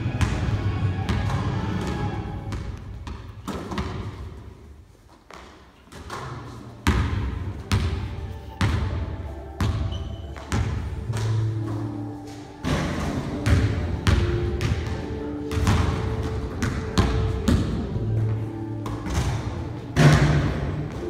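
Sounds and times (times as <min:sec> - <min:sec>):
basketball bouncing on gym floor: 0:00.0 - 0:04.4, 0:05.3 - 0:09.0, 0:09.6 - 0:11.5, 0:12.6 - 0:21.0.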